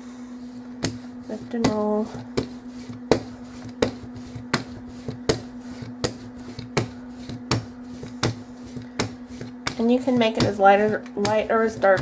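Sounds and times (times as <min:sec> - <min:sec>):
brayer rolling on photo paper: 0:00.4 - 0:12.0
sharp tap of brayer on paper: 0:00.8 - 0:01.0, 0:02.4 - 0:12.0.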